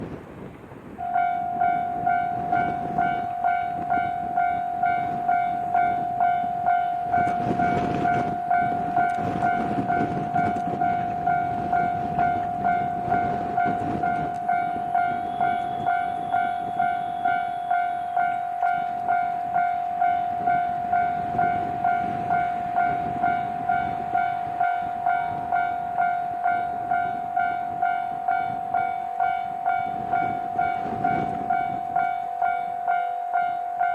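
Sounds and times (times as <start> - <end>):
railcar rumbling over crossing: 0.0 - 33.9
level crossing alarm dinging: 1.0 - 33.9.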